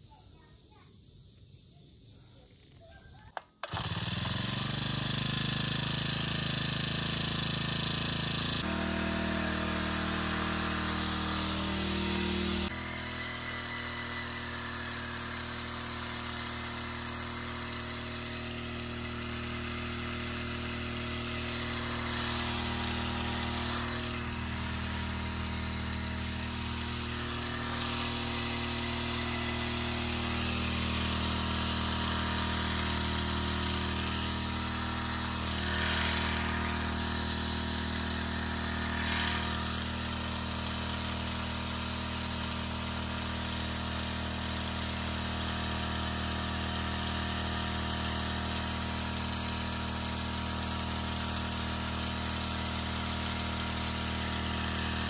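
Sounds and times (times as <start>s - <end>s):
small engine revving and running: 3.6s - 55.0s.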